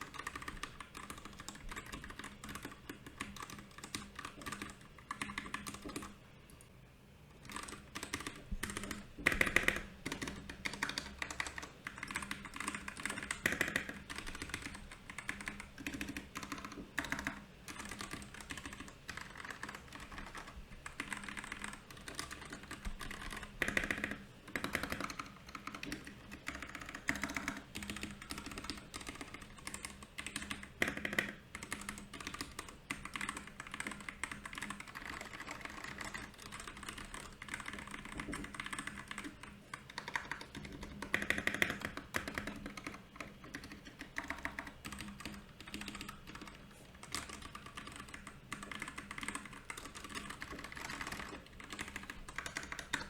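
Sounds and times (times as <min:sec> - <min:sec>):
mechanical keyboard typing: 0:00.0 - 0:06.6, 0:07.4 - 0:53.0.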